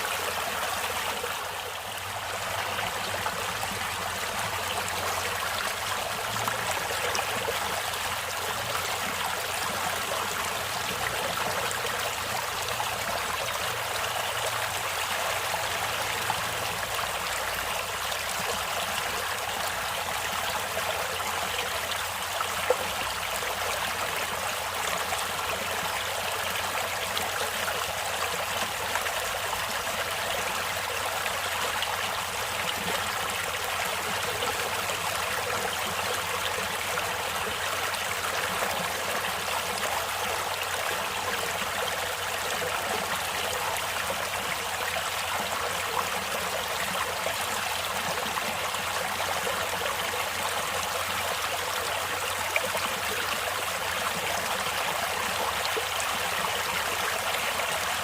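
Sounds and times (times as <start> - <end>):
stream water over stones: 0.0 - 58.0.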